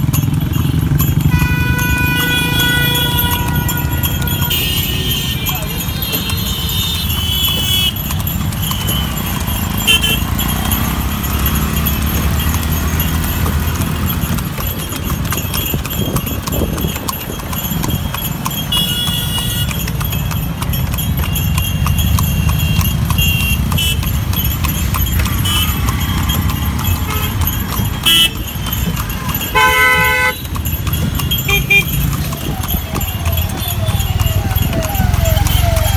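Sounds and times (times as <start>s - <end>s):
horse hooves clip-clopping on pavement: 0.0s - 35.9s
low rumble of street traffic: 0.0s - 35.9s.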